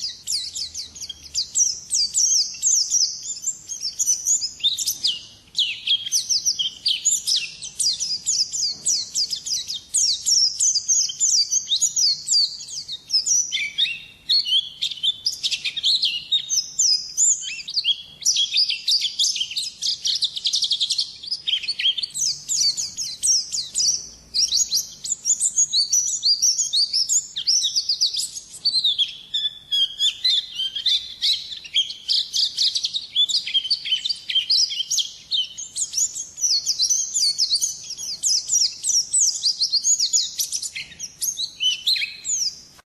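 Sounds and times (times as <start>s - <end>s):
bird twittering and trilling: 0.0s - 42.8s.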